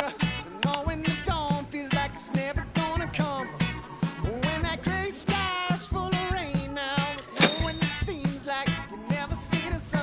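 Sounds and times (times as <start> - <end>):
background pop music: 0.0 - 10.0.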